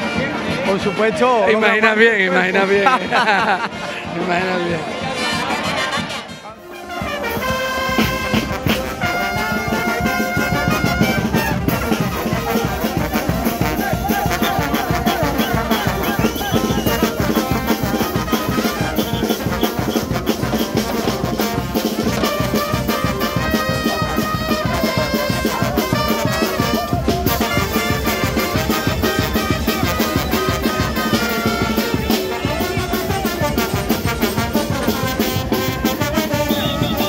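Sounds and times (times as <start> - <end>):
brass band playing: 0.0 - 37.0
bass drum beat: 6.9 - 37.0.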